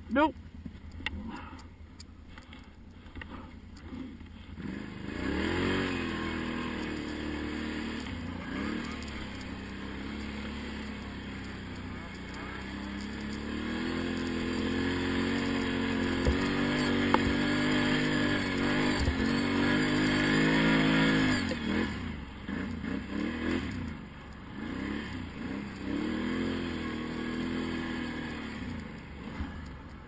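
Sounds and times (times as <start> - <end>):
quad bike engine revving: 3.0 - 30.0.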